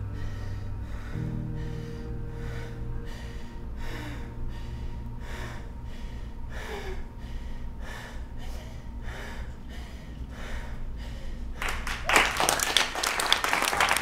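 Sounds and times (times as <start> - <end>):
person breathing heavily: 0.0 - 11.6
low steady hum: 0.0 - 14.0.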